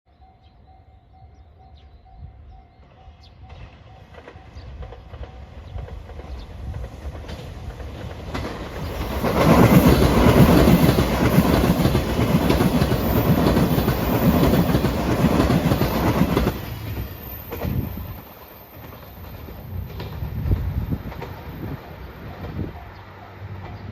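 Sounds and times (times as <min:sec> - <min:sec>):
train rumbling: 0:00.3 - 0:23.9
train wheels clattering over rail joints: 0:03.5 - 0:22.6.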